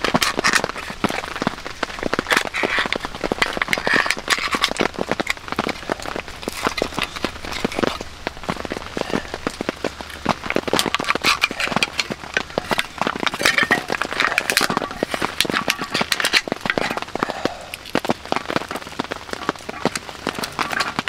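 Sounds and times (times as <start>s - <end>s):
rain dripping on a tarp: 0.0s - 21.0s
shell cracking and peeling: 0.0s - 21.0s.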